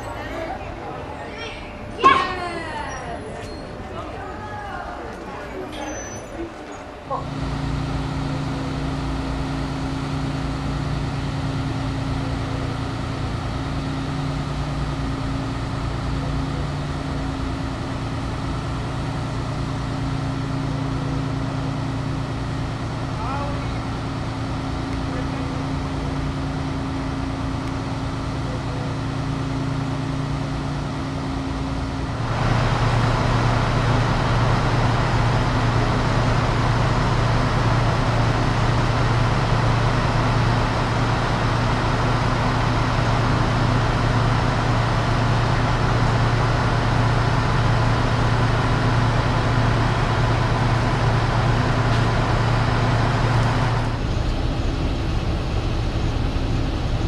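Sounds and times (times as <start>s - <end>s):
diesel railcars humming: 0.0s - 57.0s.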